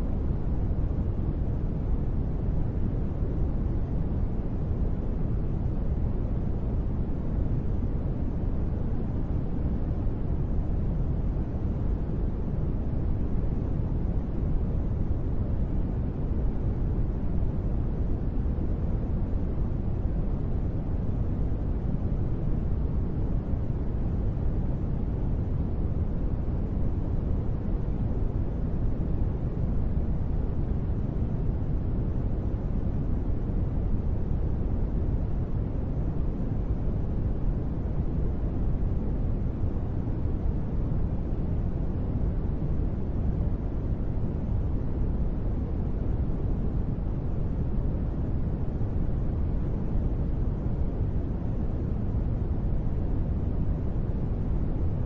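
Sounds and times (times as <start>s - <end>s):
low rushing white noise: 0.0s - 55.0s.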